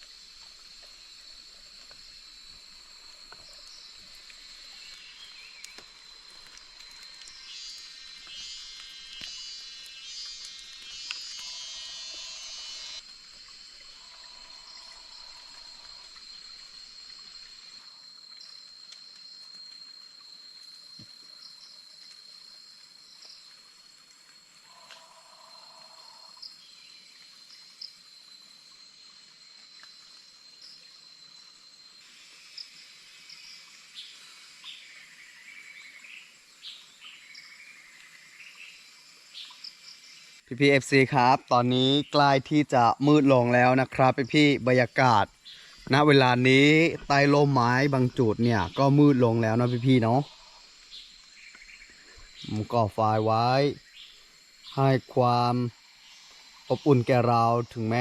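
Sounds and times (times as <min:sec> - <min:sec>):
crickets chirping: 0:00.0 - 0:58.0
high-pitched insect drone: 0:00.0 - 0:58.0.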